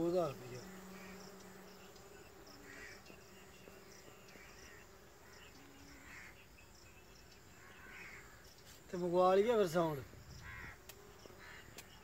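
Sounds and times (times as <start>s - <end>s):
bee colony buzzing: 0.0s - 12.0s.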